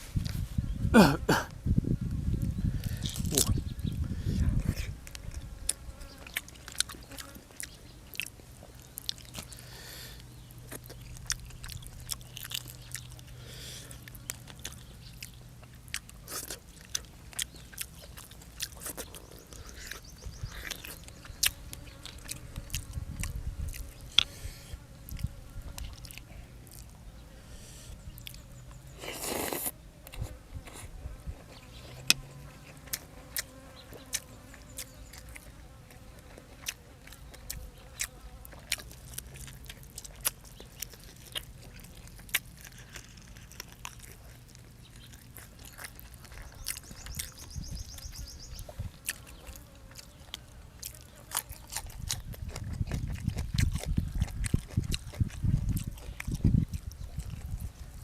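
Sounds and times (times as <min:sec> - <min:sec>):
close chewing and crunching: 0:00.0 - 0:58.0.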